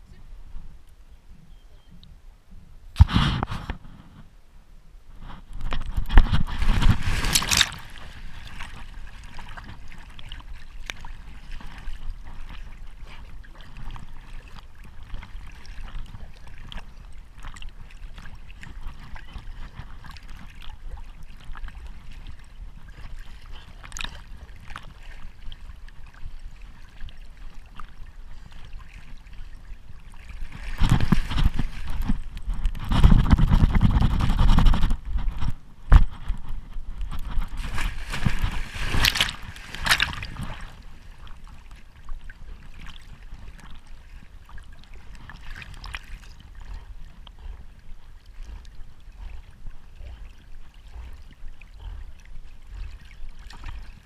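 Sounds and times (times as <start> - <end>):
water splashing as dog swims: 5.2 - 54.0.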